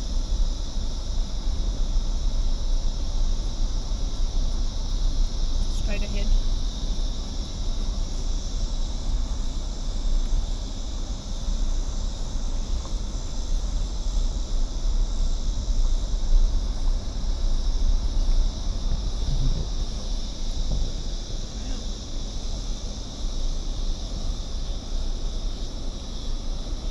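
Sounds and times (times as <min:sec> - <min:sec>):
high-pitched insect drone: 0:00.0 - 0:26.9
steady low rumble: 0:00.0 - 0:26.9.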